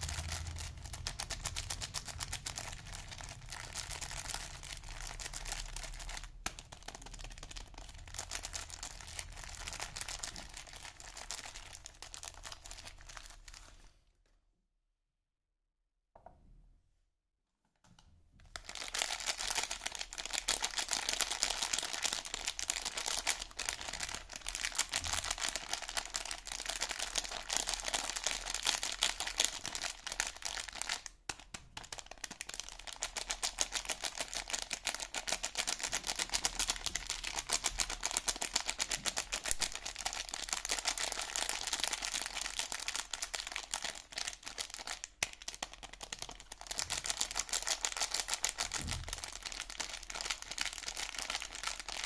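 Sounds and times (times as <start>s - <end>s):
packaging being crinkled: 0.0s - 14.0s, 18.4s - 52.0s.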